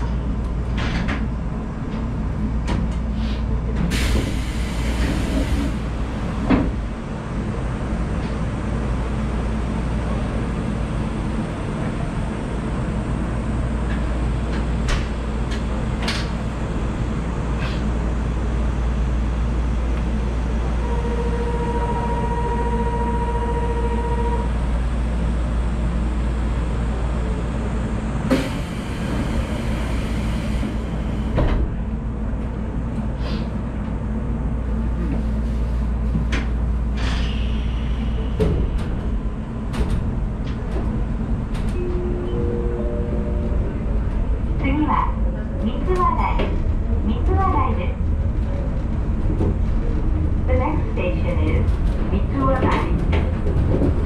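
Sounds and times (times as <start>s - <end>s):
low hum from rail car: 0.0s - 54.0s.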